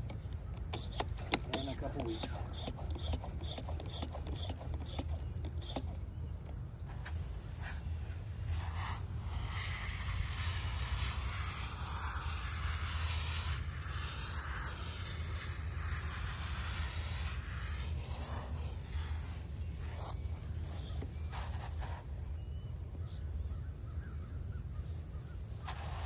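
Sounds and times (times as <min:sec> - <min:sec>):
garden sprayer hissing: 0:00.0 - 0:22.5, 0:24.9 - 0:26.0.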